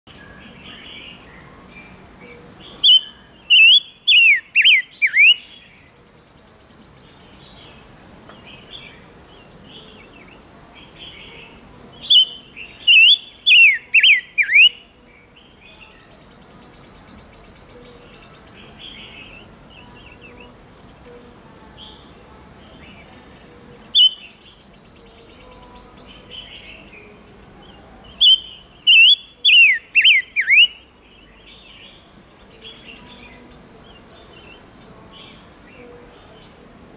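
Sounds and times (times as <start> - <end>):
bird singing whistled notes: 0.1 - 7.8, 8.4 - 23.1, 23.8 - 36.5
faint steady background noise: 0.1 - 36.9.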